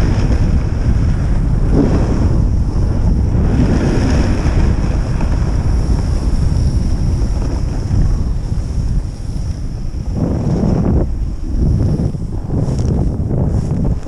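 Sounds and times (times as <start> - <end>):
board sliding over snow: 0.0 - 14.0
wind buffeting microphone: 0.0 - 14.0.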